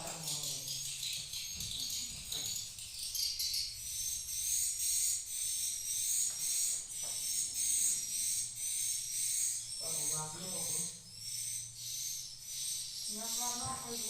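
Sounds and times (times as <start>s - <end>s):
steady low hum: 0.0s - 14.0s
swiftlets chirping: 0.0s - 14.0s.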